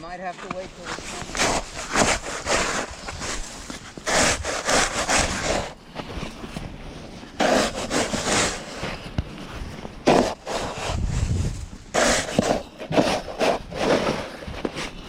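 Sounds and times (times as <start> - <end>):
snow shovel scraping icy snow: 0.2 - 15.0.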